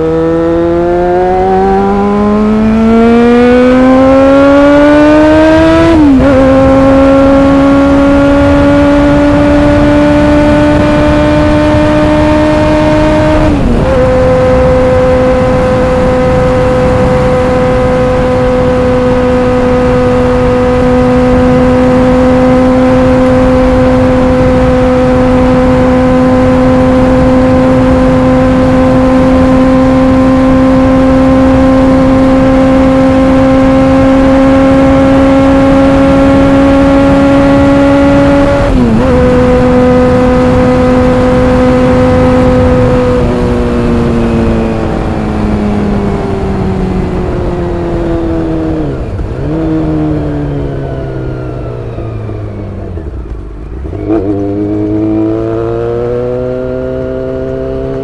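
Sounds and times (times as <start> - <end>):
motorcycle engine at high revs: 0.0 - 58.0
wind noise: 0.0 - 58.0.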